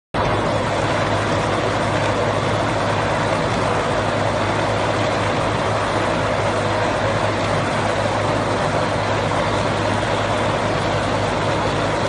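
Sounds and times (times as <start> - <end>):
diesel engine humming: 0.2 - 12.0.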